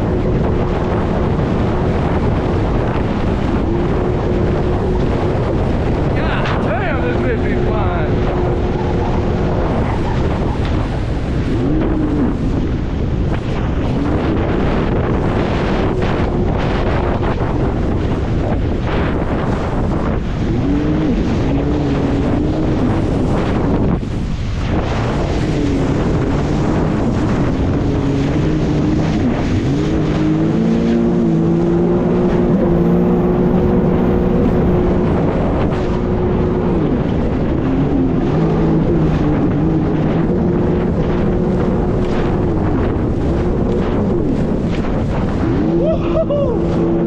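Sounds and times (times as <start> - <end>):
jet ski engine running: 0.0 - 47.0
wind on microphone: 0.0 - 47.0.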